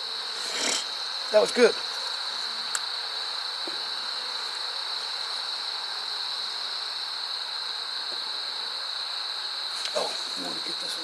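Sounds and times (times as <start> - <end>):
constant hiss: 0.0 - 11.0
high-pitched whine: 0.0 - 11.0.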